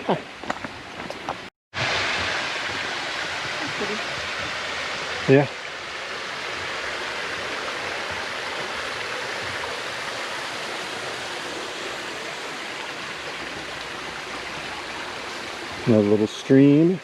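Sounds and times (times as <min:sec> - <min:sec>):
small stream rushing: 0:00.0 - 0:17.0.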